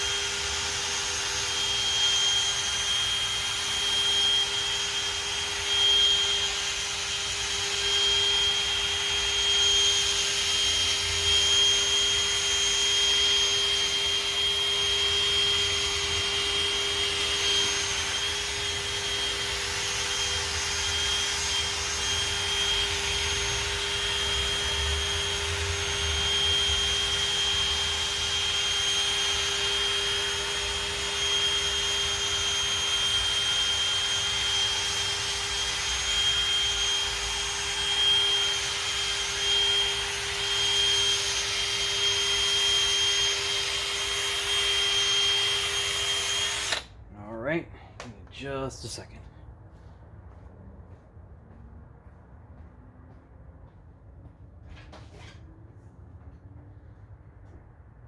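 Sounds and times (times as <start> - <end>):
electric drill motor whine: 0.0 - 47.0.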